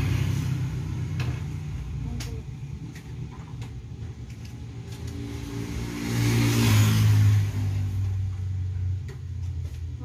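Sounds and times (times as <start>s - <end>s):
vehicle passing on road: 0.0s - 2.0s, 2.8s - 9.8s.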